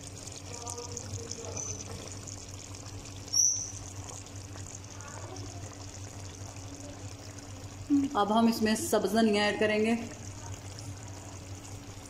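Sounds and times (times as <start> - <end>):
curry bubbling in a pan: 0.0 - 12.0.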